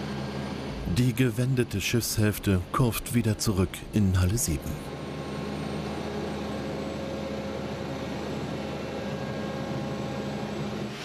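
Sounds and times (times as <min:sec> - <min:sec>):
heavy transporter engine running: 0:00.0 - 0:11.0.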